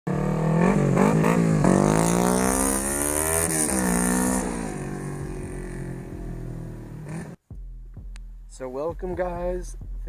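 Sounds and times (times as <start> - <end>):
motorcycle engine revving and idling: 0.1 - 8.2.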